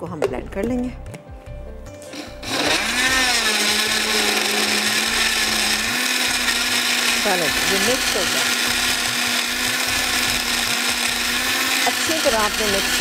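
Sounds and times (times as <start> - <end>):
blender motor running: 2.0 - 13.0.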